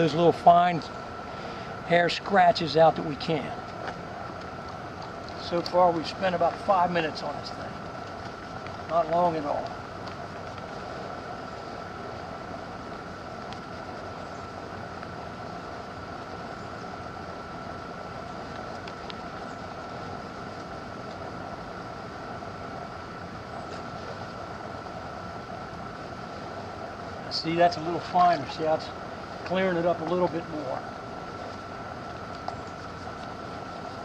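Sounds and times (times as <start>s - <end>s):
mechanical hum with whine: 0.0s - 34.0s.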